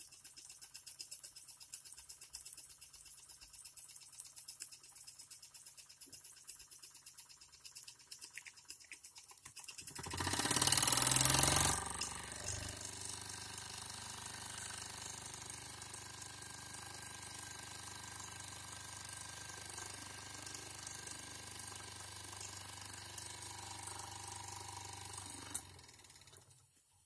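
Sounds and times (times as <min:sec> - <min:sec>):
toy steam engine running: 0:00.0 - 0:26.6.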